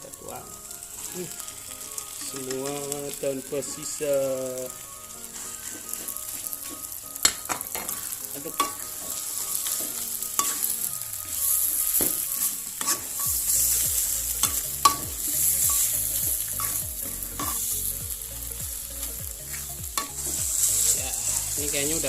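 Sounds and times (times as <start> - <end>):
frying sizzle: 0.0 - 22.0.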